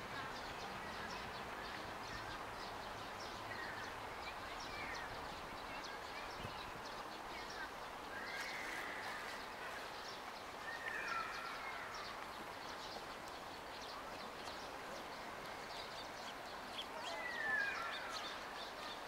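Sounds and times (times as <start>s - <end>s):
outdoor background noise: 0.0s - 19.0s
bird calls: 0.4s - 19.0s.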